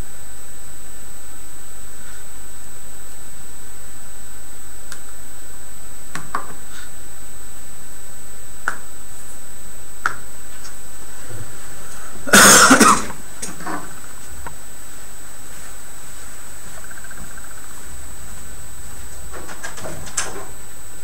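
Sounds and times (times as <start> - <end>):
recording hiss: 0.0 - 21.0
thin high whine: 0.0 - 21.0.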